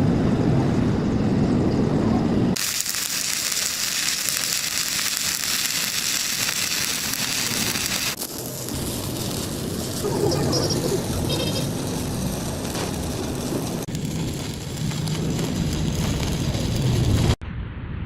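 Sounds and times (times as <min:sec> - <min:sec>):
arc welding crackle: 0:02.6 - 0:17.4.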